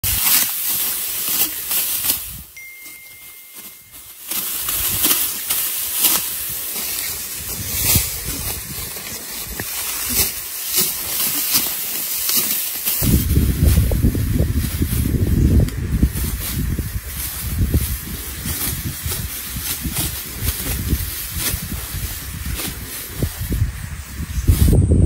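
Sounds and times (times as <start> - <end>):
crisp cutting strokes: 0.0 - 24.7
rice stalks rustling and swishing: 0.0 - 24.8.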